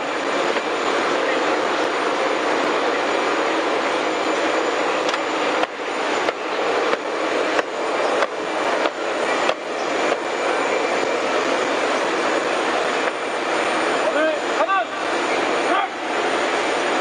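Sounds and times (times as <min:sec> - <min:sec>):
aircraft engines roaring: 0:00.0 - 0:17.0
thin high whine: 0:00.0 - 0:17.0.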